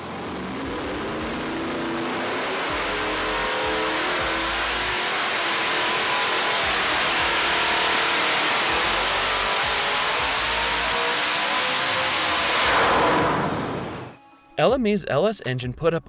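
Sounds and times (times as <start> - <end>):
engine revving at full throttle: 0.0 - 14.2.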